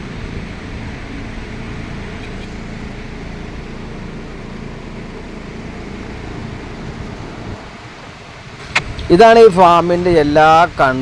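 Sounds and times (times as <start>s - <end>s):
ventilation fans droning: 0.0s - 11.0s.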